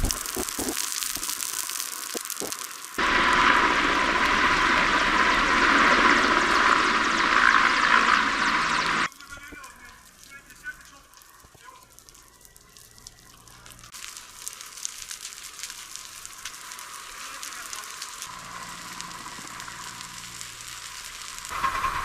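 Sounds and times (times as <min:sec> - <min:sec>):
burning vegetation crackling: 0:00.0 - 0:22.0
loud steady hiss: 0:00.0 - 0:22.0.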